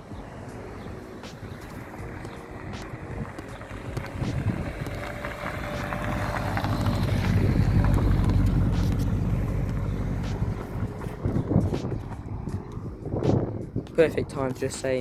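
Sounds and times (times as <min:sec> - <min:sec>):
car driving past: 0:00.5 - 0:12.6.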